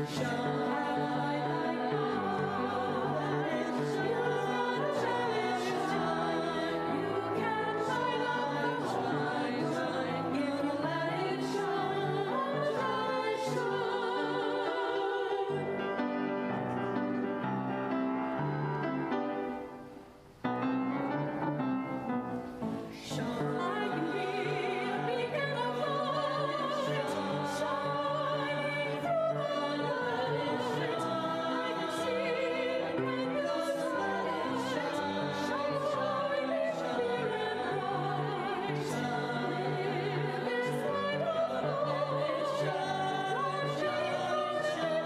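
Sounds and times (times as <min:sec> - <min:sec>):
choir singing church music: 0:00.0 - 0:45.0.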